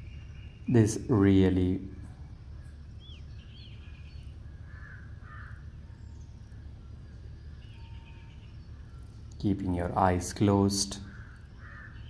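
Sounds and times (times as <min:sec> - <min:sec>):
bird chirps: 0:00.0 - 0:12.0
harsh bird calls: 0:00.0 - 0:12.0.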